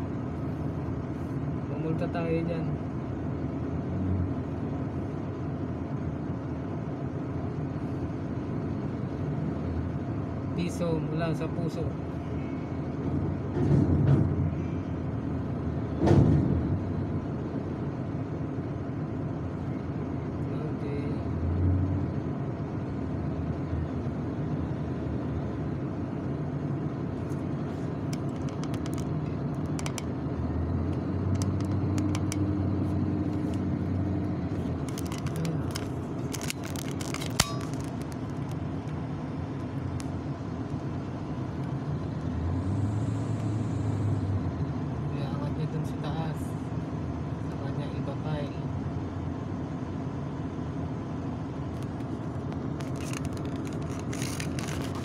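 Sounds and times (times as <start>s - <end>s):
diesel engines rumbling: 0.0s - 55.0s.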